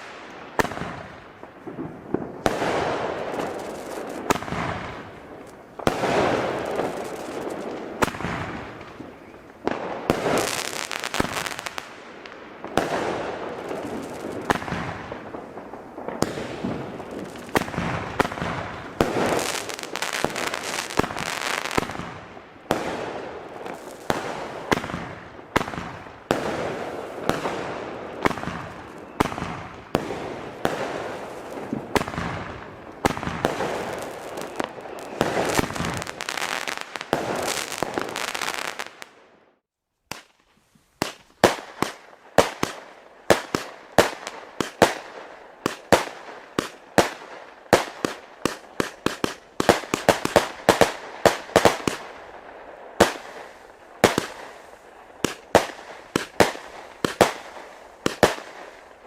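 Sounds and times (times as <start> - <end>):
firework shots: 0.0 - 39.4, 40.1 - 59.0.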